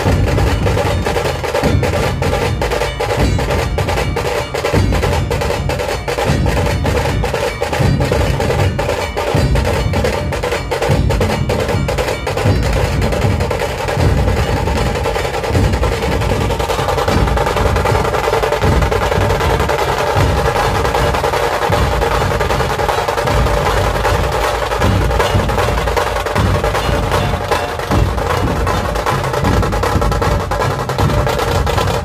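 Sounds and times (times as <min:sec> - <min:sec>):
ensemble drumming: 0:00.0 - 0:32.0.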